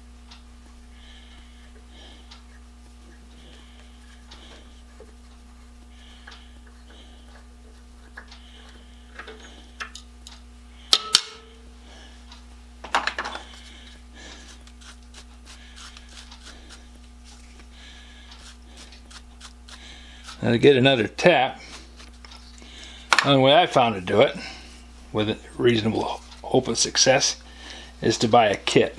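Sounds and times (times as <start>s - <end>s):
low electrical hum: 0.0s - 28.9s.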